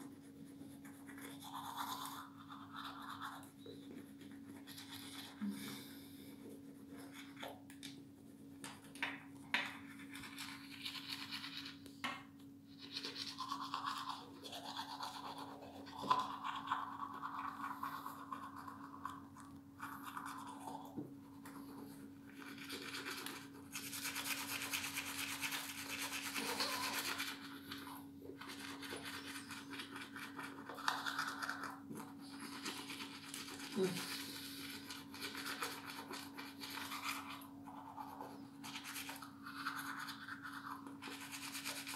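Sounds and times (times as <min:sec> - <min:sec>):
toothbrush scrubbing teeth: 0:00.0 - 0:11.9, 0:12.7 - 0:41.9.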